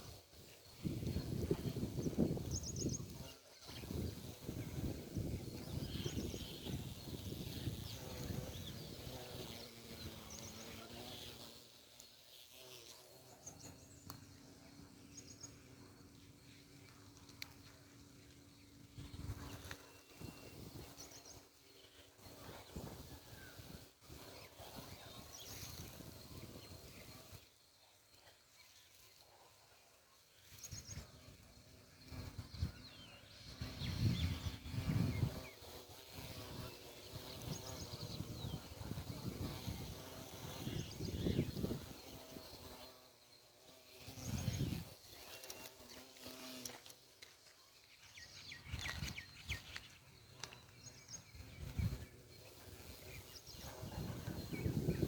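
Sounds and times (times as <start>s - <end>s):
small birds chirping: 0.0s - 29.4s, 30.2s - 55.0s.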